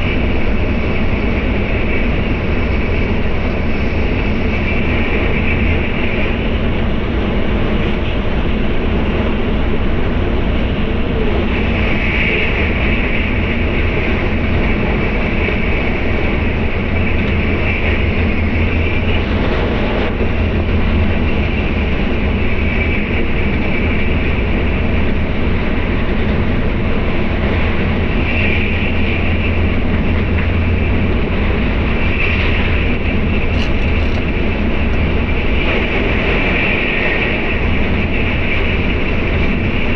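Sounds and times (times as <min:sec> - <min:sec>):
train cabin rumble and hiss: 0:00.0 - 0:39.9.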